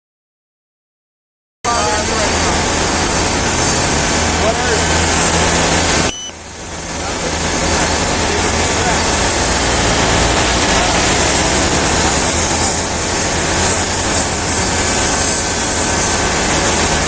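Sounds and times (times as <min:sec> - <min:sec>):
loud vehicle rumble: 0:01.7 - 0:17.0.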